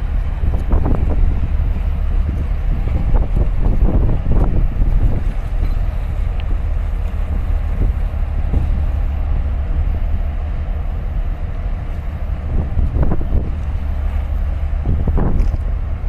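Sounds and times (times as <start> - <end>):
waves splashing against concrete: 0.0 - 16.0
wind buffeting microphone: 0.0 - 16.0.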